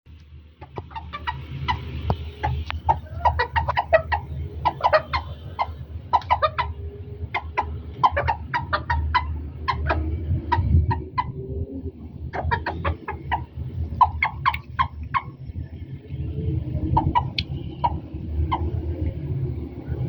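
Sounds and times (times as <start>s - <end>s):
steady low hum: 0.1s - 16.3s
birds giving sharp calls: 0.5s - 15.9s, 16.8s - 19.1s.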